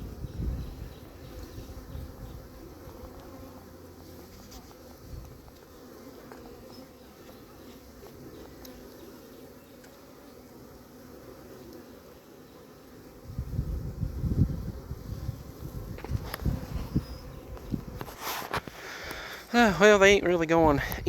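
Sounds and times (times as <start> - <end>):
bee swarm buzzing: 0.0 - 20.0.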